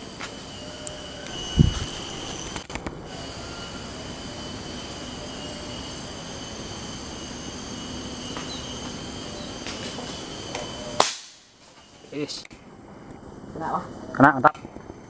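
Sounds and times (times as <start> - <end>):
forest insects chorus: 0.0 - 15.0.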